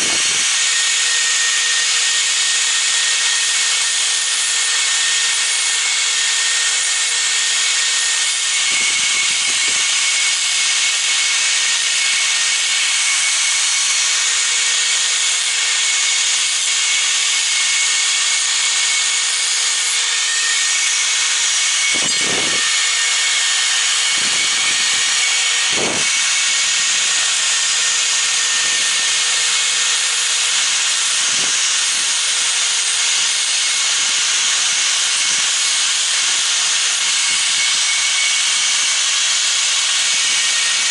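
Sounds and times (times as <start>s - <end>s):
angle grinder grinding metal: 0.0s - 40.9s.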